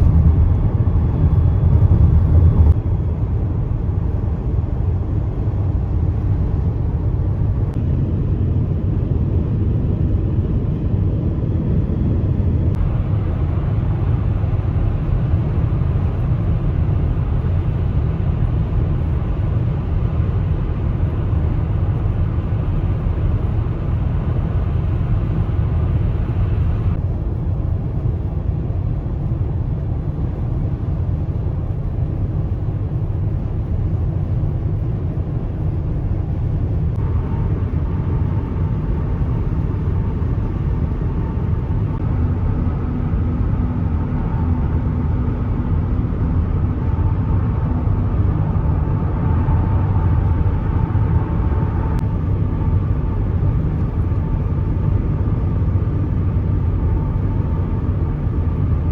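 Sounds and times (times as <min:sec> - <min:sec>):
car driving rumble: 0:00.0 - 0:08.2, 0:11.8 - 0:58.9.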